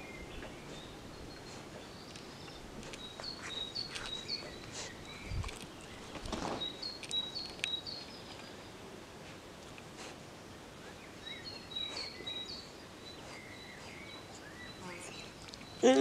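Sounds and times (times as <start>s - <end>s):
songbird chirping: 0.0s - 9.0s, 9.6s - 16.0s.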